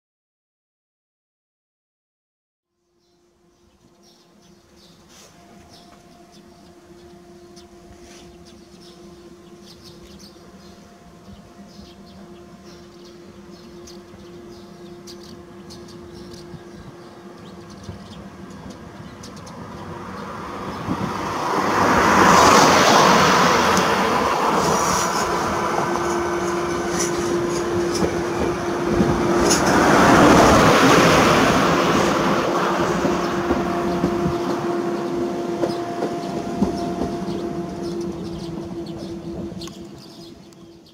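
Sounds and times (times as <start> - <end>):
train wheels rushing on rail: 4.8 - 40.9.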